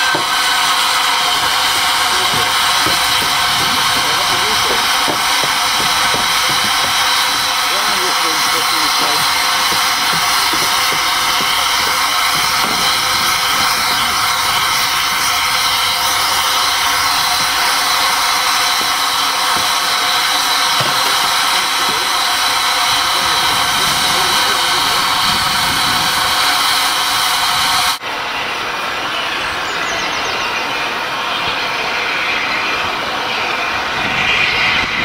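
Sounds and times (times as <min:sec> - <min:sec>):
loud hiss of escaping steam: 0:00.0 - 0:29.3, 0:30.6 - 0:35.0.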